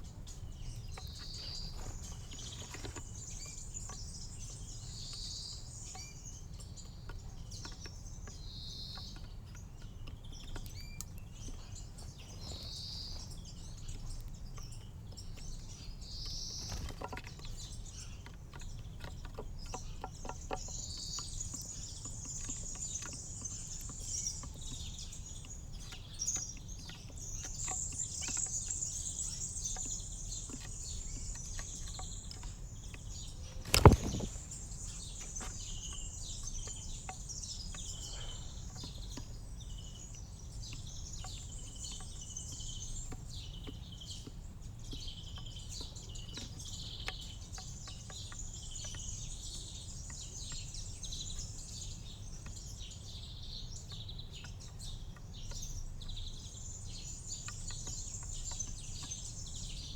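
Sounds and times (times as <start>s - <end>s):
small ticks: 0.0s - 59.9s
songbirds chirping and twittering: 0.0s - 59.9s.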